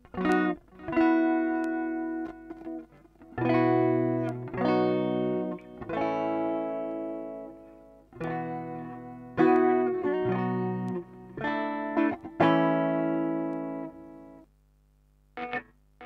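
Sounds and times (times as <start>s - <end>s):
guitar chords strummed with delay: 0.0s - 14.4s, 15.4s - 15.7s.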